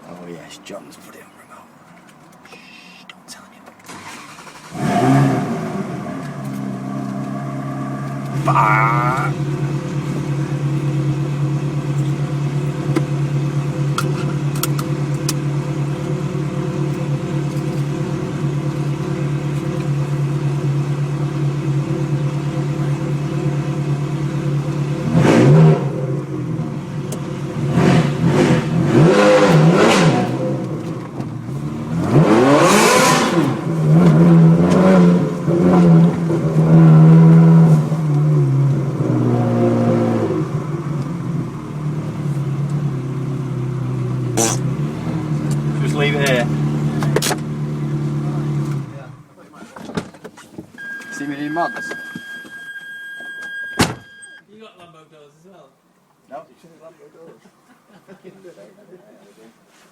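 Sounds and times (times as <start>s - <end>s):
car engine idling and revving: 0.0s - 54.4s.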